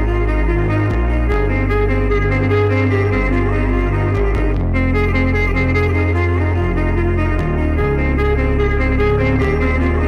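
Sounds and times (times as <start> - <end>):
jazzy instrumental music: 0.0 - 10.0.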